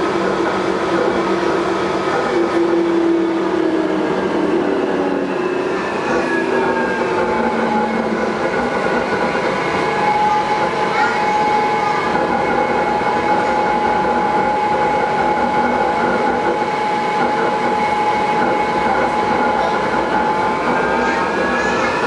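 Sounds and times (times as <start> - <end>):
train motor whine: 0.0 - 22.0
train rumble: 0.0 - 22.0.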